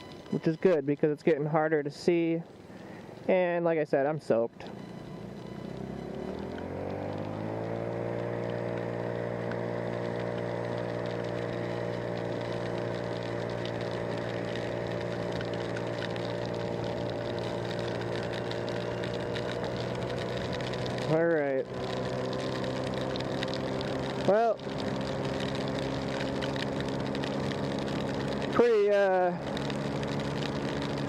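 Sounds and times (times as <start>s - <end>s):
motorcycle engine running: 4.7s - 31.0s.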